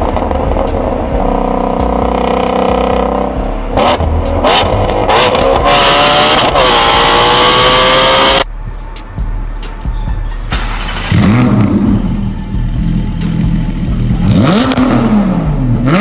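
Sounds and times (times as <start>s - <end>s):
car engine revving loud exhaust: 0.0s - 8.5s, 10.6s - 16.0s.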